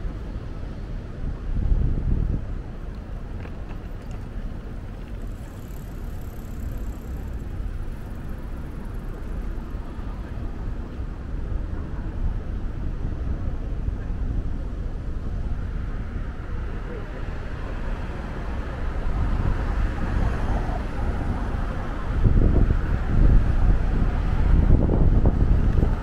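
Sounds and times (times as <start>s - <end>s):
city street traffic rumble: 0.0s - 26.0s.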